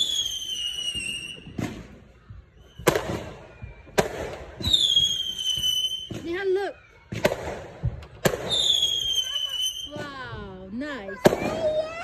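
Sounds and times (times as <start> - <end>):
fireworks bangs: 0.0 - 12.0
whistling fireworks: 0.0 - 12.0.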